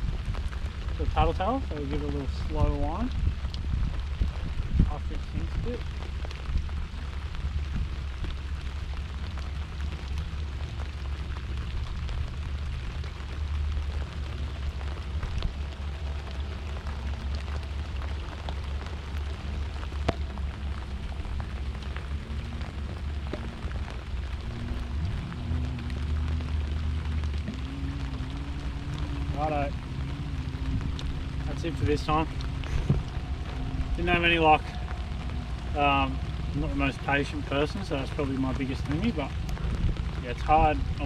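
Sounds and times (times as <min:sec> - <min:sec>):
rain falling: 0:00.0 - 0:41.0
raindrop ticks: 0:00.0 - 0:41.0
wind rumble on microphone: 0:00.0 - 0:41.0.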